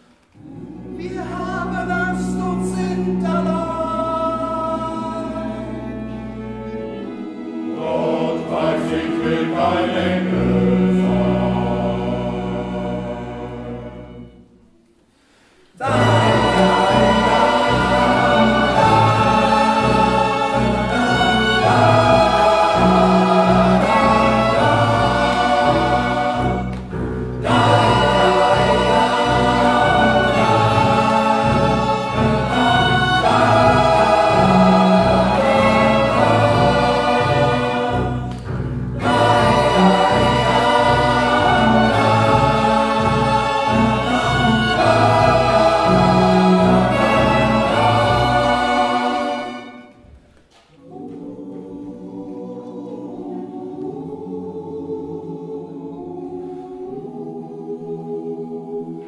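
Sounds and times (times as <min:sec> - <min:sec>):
men's choir singing: 0:00.4 - 0:14.5, 0:15.7 - 0:49.9, 0:50.8 - 0:59.0
violins and cello: 0:00.4 - 0:14.5, 0:15.8 - 0:50.0.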